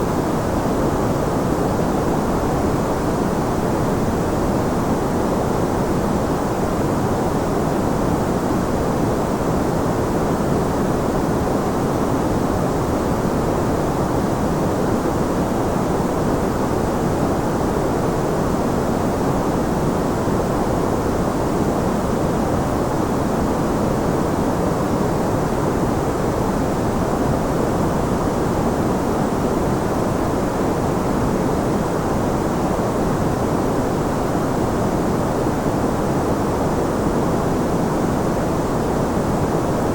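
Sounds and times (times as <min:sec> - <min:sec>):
soft white noise: 0:00.0 - 0:39.9.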